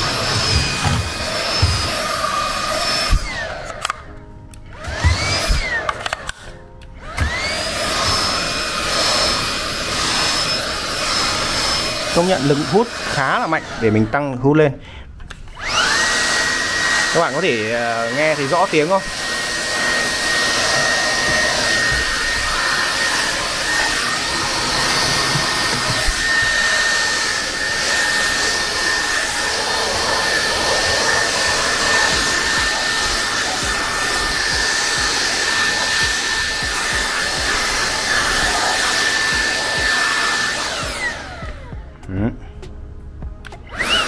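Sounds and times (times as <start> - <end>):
handheld vacuum cleaner running: 0.0 - 4.1, 4.7 - 14.2, 15.5 - 41.9, 43.7 - 44.0.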